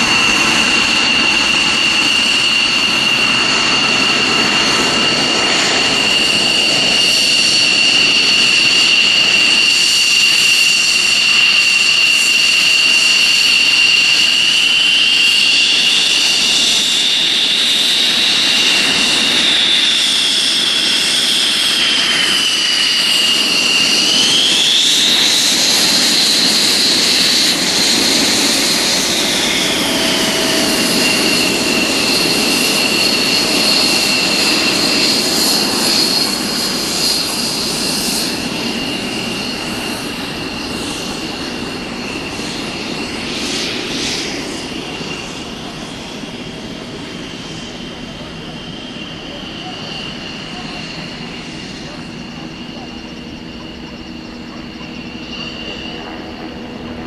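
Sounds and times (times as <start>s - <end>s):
aircraft motor whine: 0.0s - 57.0s.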